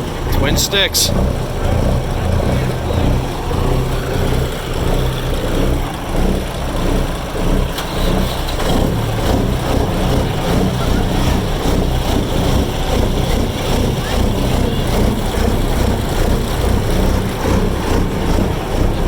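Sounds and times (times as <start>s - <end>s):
diesel engines idling: 0.0s - 19.0s.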